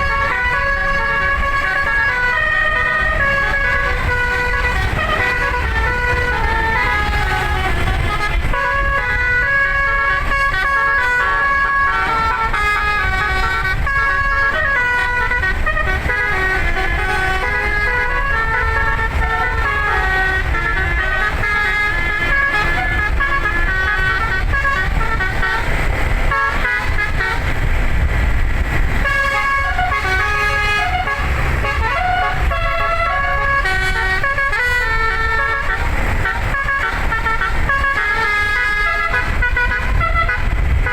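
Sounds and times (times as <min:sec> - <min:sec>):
musical air horn melody: 0:00.0 - 0:40.9
steady low rumble: 0:00.0 - 0:40.9.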